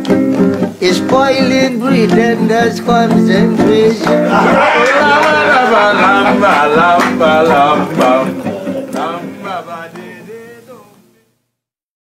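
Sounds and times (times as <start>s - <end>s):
strummed acoustic guitar: 0.0s - 11.2s
man singing: 0.7s - 11.4s.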